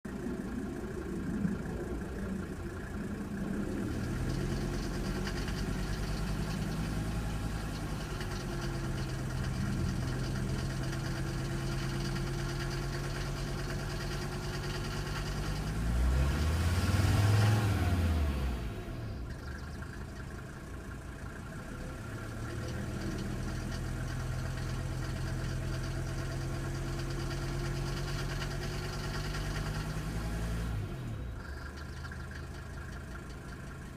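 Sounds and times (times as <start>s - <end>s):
diesel engine idling with tick: 0.0s - 33.9s
engine revving: 0.2s - 20.3s, 21.6s - 33.3s.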